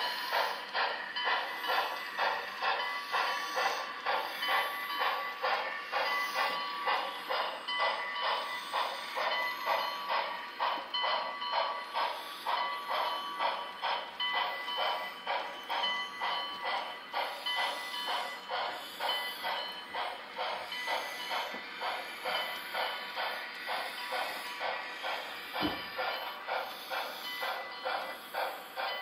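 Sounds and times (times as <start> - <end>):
model steam locomotive chuffing: 0.0 - 29.0
model train rolling: 0.0 - 29.0.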